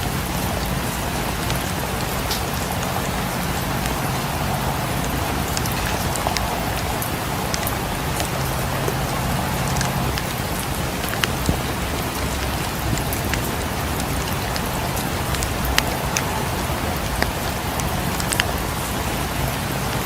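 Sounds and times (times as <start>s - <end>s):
rain on windows: 0.0s - 20.0s
wood fire crackling and popping: 1.0s - 19.4s.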